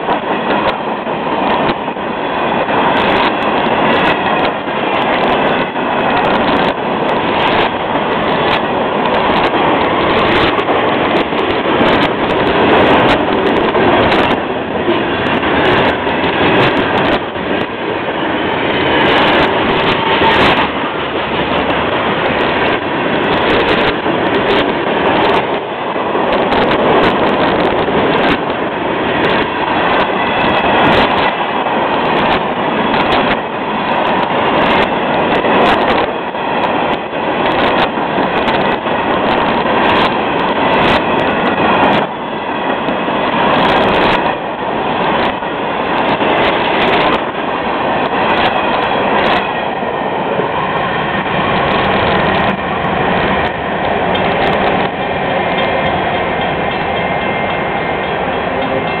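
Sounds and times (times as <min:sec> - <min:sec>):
train wheels rolling on rails: 0:00.0 - 0:59.0
wheels clacking over rail joints: 0:00.0 - 0:59.0.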